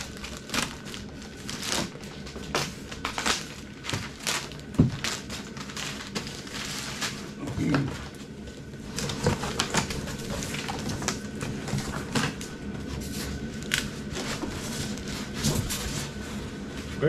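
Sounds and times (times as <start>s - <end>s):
packing tape and wrapping rustling: 0.0s - 17.0s.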